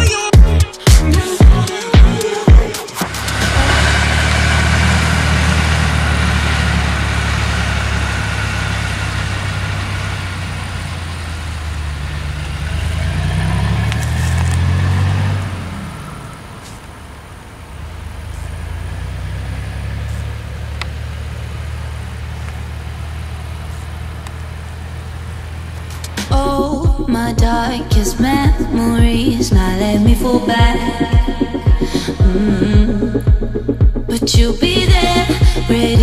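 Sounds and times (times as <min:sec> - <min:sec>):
diesel engines droning: 0:00.0 - 0:36.0.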